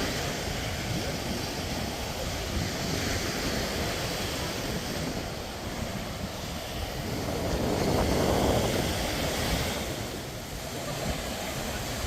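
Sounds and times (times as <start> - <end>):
surf washing on sandy beach: 0.0 - 12.0
wind on microphone: 0.0 - 12.0.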